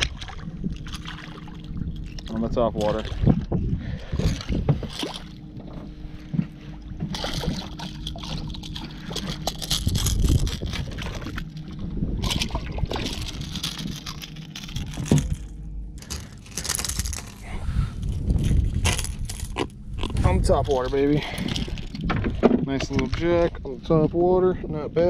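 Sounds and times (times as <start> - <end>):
fish splashing and thrashing: 0.0 - 23.6
water lapping at hull: 0.0 - 25.0.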